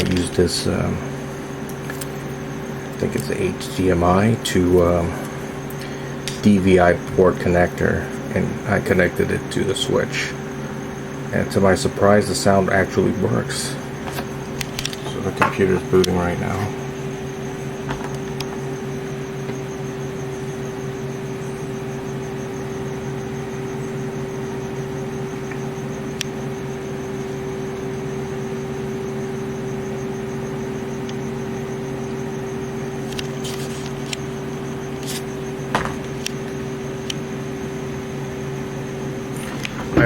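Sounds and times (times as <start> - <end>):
computer fans whirring hum: 0.0 - 40.0.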